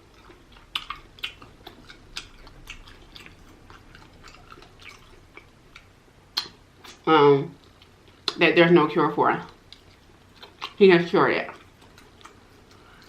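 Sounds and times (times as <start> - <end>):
wet chewing mouth clicks: 0.0 - 8.4, 9.5 - 10.8, 11.4 - 13.0.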